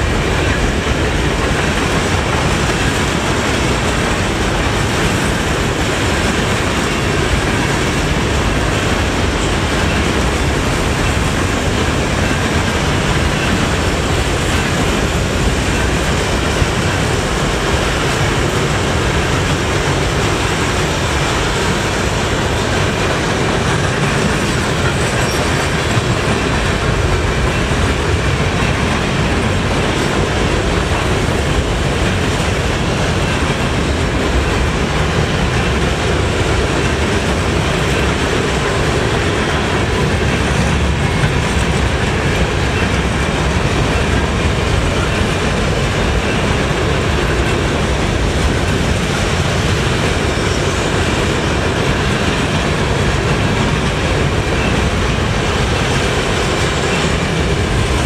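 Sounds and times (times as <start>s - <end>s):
freight train rumbling past: 0.0s - 58.0s
steel wheels clattering on rails: 0.0s - 58.0s.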